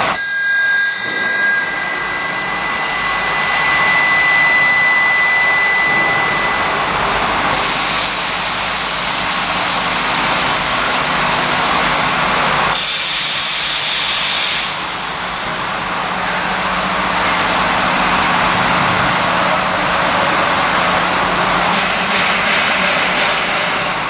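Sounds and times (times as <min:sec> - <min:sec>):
high machine whine: 0:00.0 - 0:24.0
milling machine running: 0:00.0 - 0:24.0.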